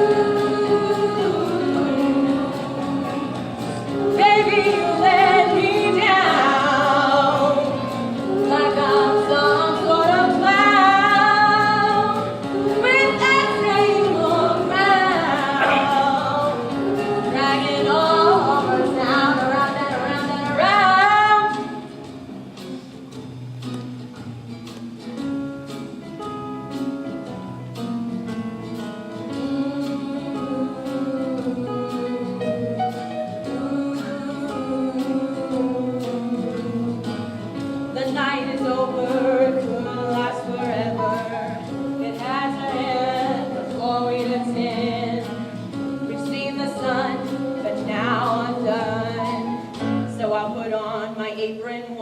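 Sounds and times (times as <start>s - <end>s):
song with singing and instruments: 0.0s - 52.0s.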